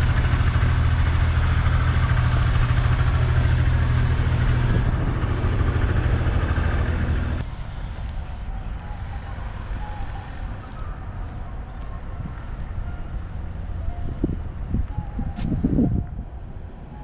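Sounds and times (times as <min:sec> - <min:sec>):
street traffic: 0:00.0 - 0:17.0
vehicle engine humming: 0:00.0 - 0:17.0.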